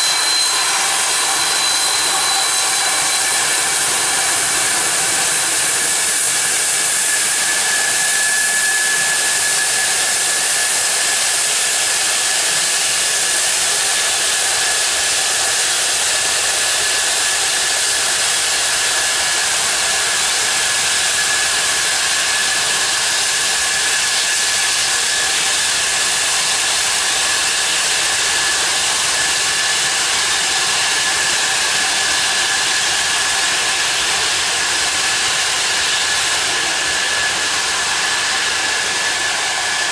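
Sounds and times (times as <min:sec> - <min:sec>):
jet engine hiss: 0:00.0 - 0:39.9
jet engines whining: 0:00.0 - 0:39.9.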